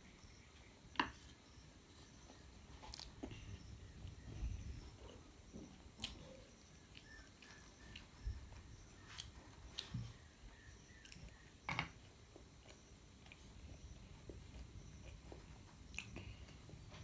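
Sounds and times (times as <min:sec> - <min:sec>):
child chewing noodles: 0:02.7 - 0:17.0.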